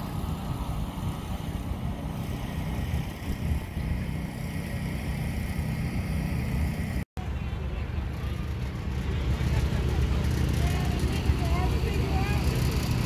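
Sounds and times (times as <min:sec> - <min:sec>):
tractor engines idling: 0:00.0 - 0:13.0.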